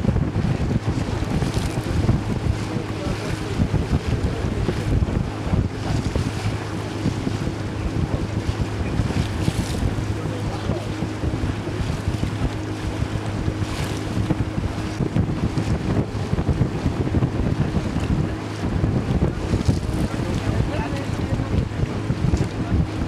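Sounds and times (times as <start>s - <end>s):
hull through choppy water: 0.0s - 23.0s
motor boat engine droning: 0.0s - 23.0s
water splashes: 0.0s - 23.0s
wind buffeting microphone: 0.0s - 23.0s.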